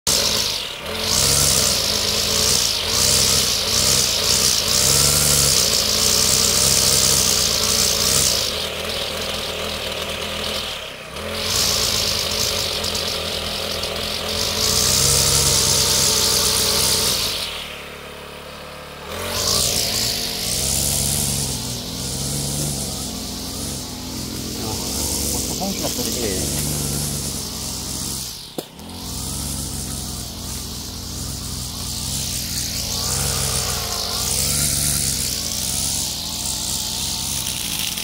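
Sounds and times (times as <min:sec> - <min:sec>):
brush cutter revving: 0:00.0 - 0:38.0
cutting head hiss: 0:00.1 - 0:09.7, 0:11.4 - 0:18.2, 0:19.1 - 0:38.0.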